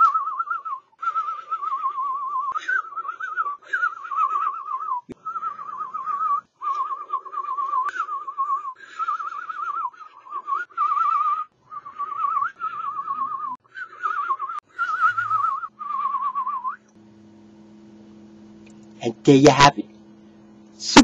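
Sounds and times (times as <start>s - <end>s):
man whistling warbling tone: 0.0s - 16.9s.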